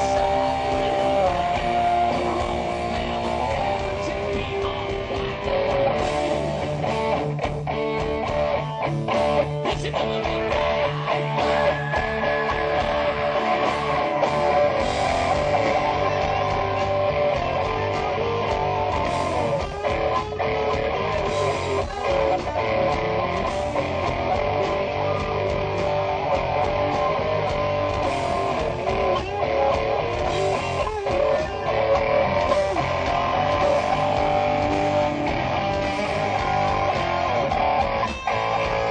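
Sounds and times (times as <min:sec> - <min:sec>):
bass guitar: 0:00.0 - 0:38.9
electric guitars: 0:00.0 - 0:38.9
live hard rock band: 0:00.0 - 0:38.9.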